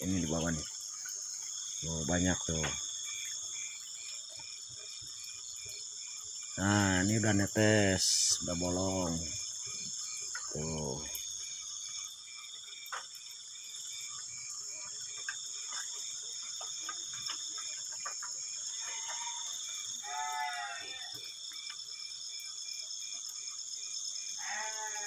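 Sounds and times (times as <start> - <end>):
insect chirping in regular pulse: 0.0 - 25.0
insects trilling: 0.0 - 25.0.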